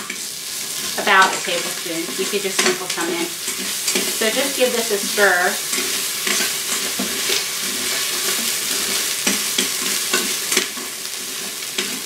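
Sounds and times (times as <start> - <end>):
food sizzling in oil: 0.0 - 12.0
utensil scraping metal pot: 0.7 - 12.0.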